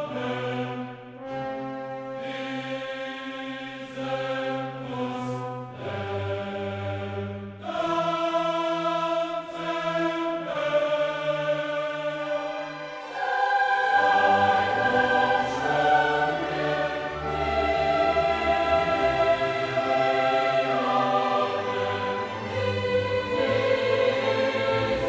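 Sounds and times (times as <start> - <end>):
choir singing held notes: 0.0 - 25.0.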